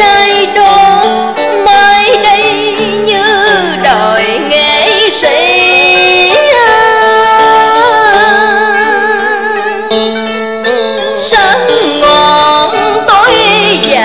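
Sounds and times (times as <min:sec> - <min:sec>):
woman singing with vibrato: 0:00.0 - 0:10.0, 0:11.2 - 0:14.0
plucked string accompaniment: 0:00.0 - 0:14.0.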